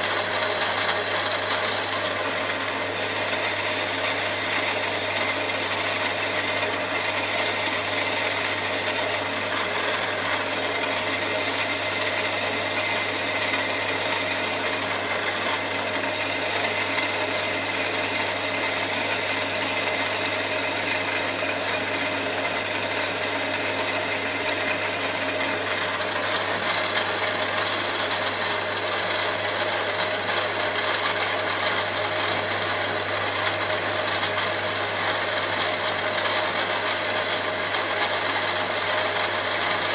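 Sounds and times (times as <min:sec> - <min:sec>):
drill bit cutting metal: 0:00.0 - 0:39.9
milling machine motor hum: 0:00.0 - 0:39.9.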